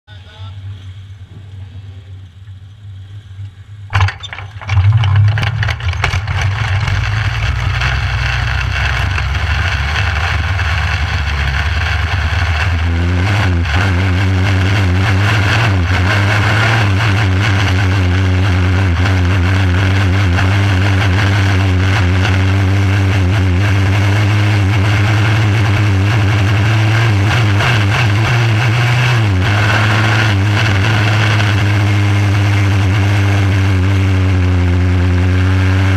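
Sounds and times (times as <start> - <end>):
race car engine running: 3.9 - 35.9.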